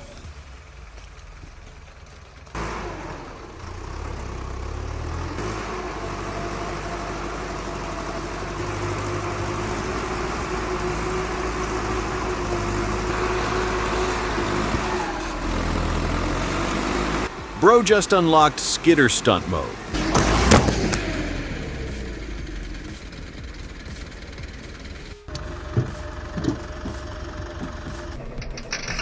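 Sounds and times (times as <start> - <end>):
heavy vehicle engine whining: 0.0 - 29.0.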